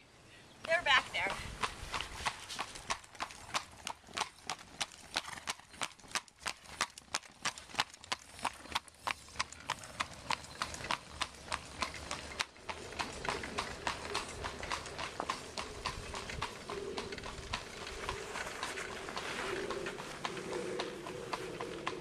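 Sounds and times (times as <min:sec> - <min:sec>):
horse hooves clip-clopping on pavement: 0:00.7 - 0:22.0.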